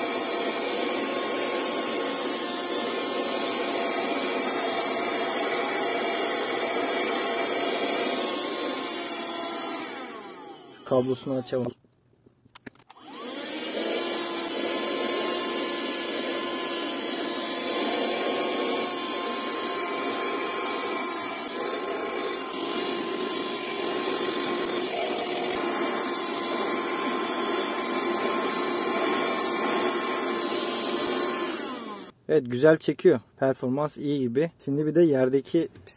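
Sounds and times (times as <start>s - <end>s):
handheld vacuum motor whining: 0.0s - 11.7s, 12.8s - 32.2s.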